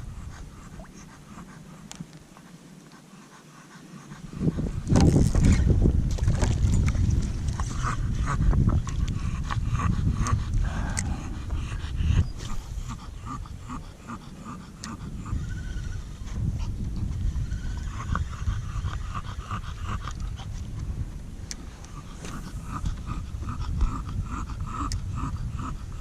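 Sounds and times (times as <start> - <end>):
dog panting: 0.0 - 4.9, 7.6 - 21.0, 21.6 - 26.0.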